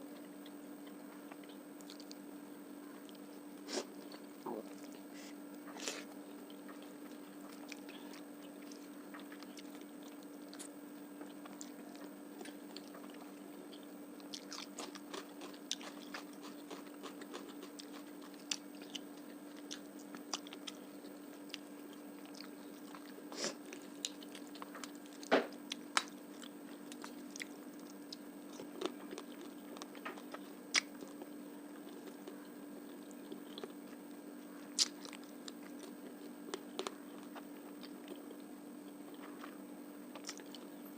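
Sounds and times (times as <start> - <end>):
steady low hum: 0.0 - 40.9
crunchy bites: 3.9 - 34.0, 34.7 - 38.4, 39.1 - 40.8.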